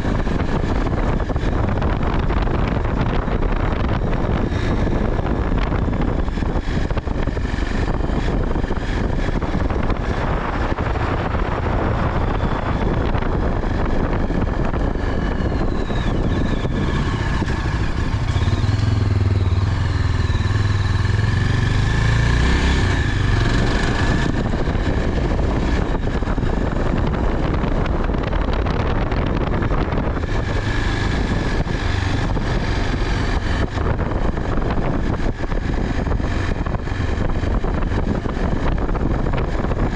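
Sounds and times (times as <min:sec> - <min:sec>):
motorcycle engine hum: 0:00.0 - 0:39.9
road and wind noise: 0:00.0 - 0:39.9.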